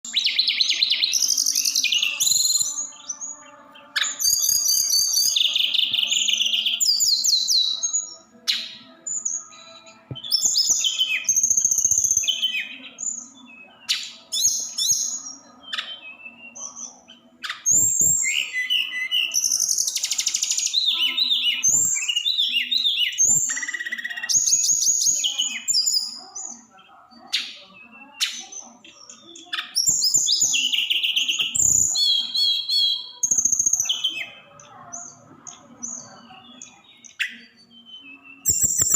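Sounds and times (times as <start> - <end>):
songbird singing trills and chirps: 0.0 - 38.9.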